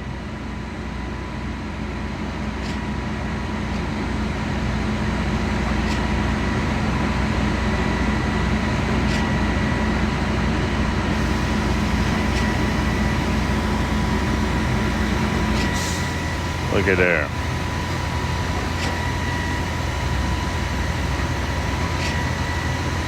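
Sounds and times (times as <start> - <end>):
heavy diesel truck engines: 0.1 - 23.0.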